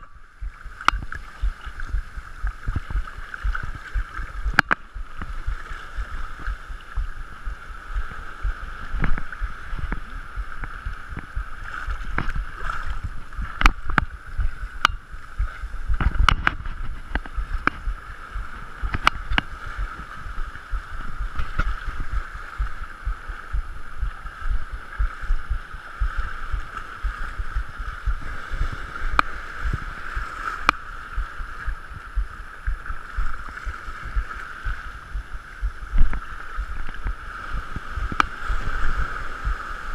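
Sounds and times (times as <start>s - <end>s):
water sloshing around wading person: 0.0s - 39.9s.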